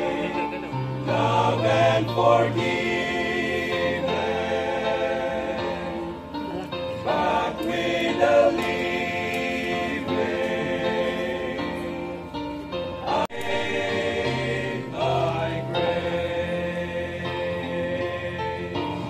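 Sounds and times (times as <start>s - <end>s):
choir singing long held notes: 0.0s - 19.0s.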